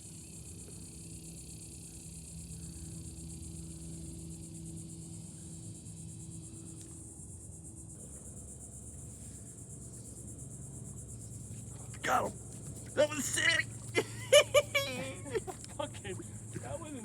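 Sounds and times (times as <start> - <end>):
faint low hum: 0.0 - 17.0
high insect trill: 0.0 - 17.0.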